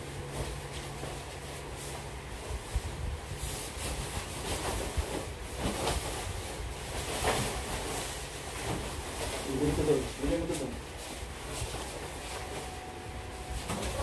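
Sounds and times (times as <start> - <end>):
plastic and foam packaging rustling: 0.2 - 14.0.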